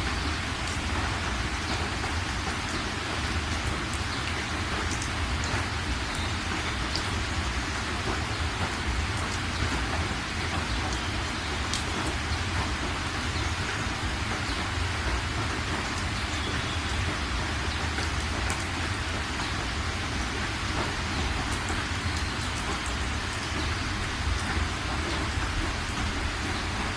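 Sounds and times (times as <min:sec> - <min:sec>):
raindrop ticks: 0:00.0 - 0:26.9
steady rain falling: 0:00.0 - 0:26.9.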